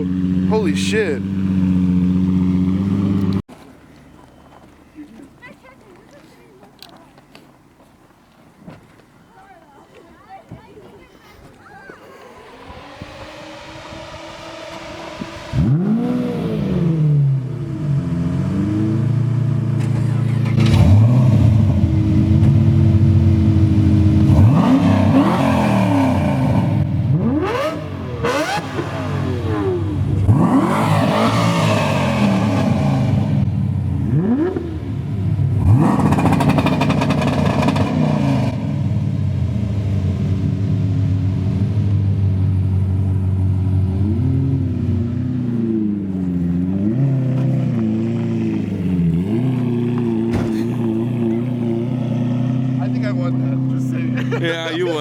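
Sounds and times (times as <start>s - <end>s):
car engine idling and revving: 0.0s - 4.8s, 11.9s - 55.0s.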